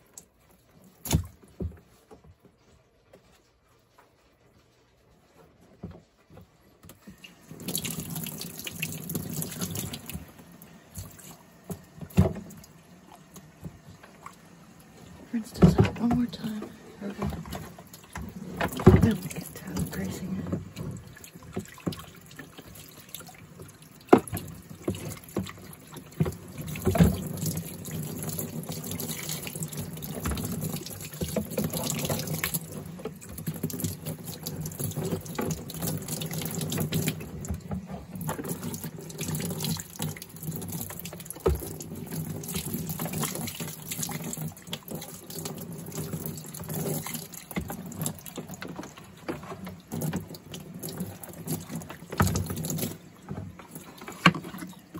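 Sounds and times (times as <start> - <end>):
water splashing on plastic: 0.0 - 54.9
water running from tap: 6.9 - 54.9.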